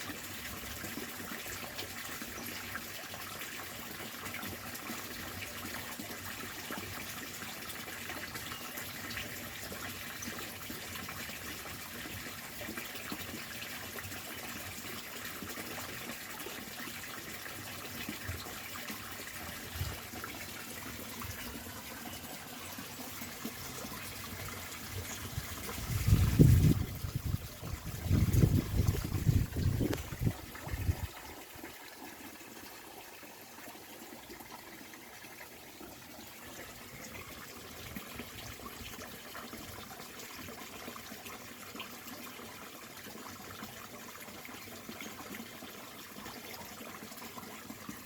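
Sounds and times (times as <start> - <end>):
water rushing: 0.0 - 42.6.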